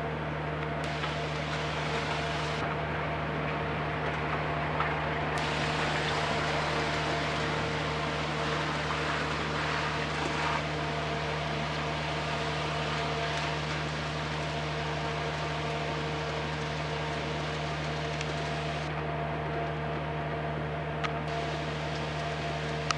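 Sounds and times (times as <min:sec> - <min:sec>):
machine humming and hissing: 0:00.0 - 0:22.9.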